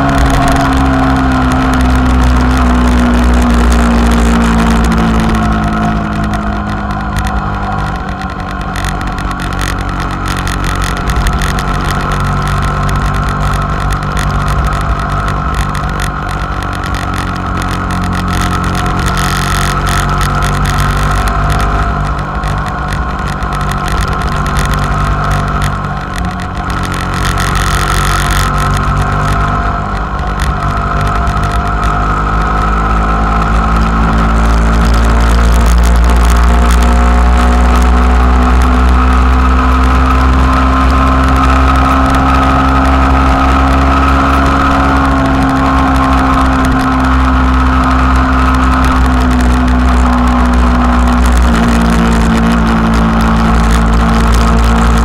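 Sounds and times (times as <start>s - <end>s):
motorcycle engine cruising: 0.0s - 55.0s
wind rush on microphone: 0.0s - 55.0s.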